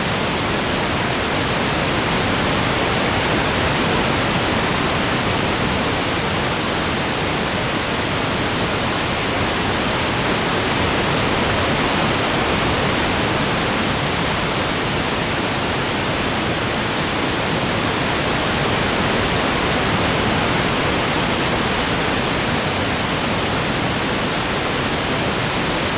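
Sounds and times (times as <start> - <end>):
steady wind: 0.0 - 25.9.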